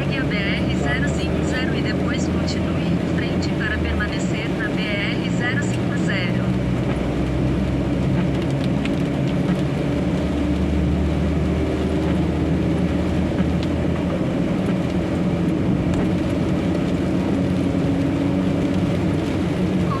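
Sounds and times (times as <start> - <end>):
diesel truck engine drone: 0.0 - 20.0
road noise: 0.0 - 20.0.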